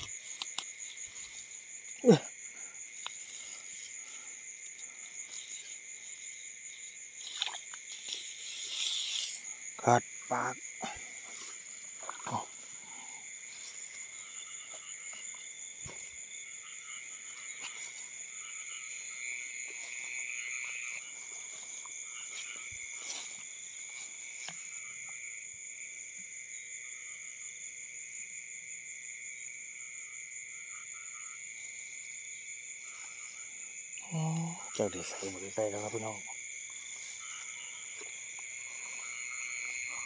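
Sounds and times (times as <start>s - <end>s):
high-pitched insect drone: 0.0s - 27.7s, 29.3s - 40.0s
frogs croaking: 0.0s - 40.0s.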